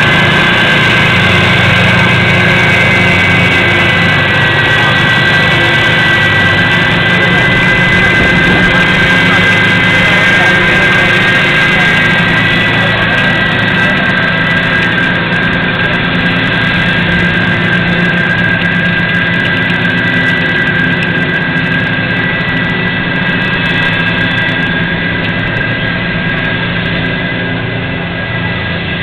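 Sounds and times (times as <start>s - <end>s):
tank engines whining and droning: 0.0s - 29.0s.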